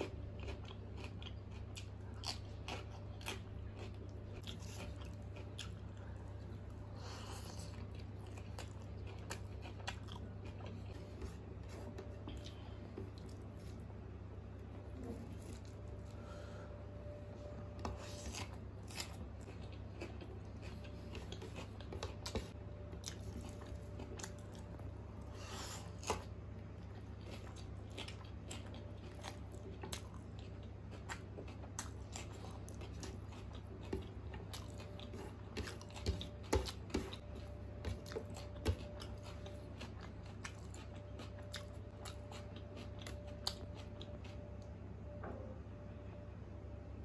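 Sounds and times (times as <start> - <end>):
person chewing with wet mouth sounds: 0.0 - 44.7
steady low hum: 0.0 - 47.0.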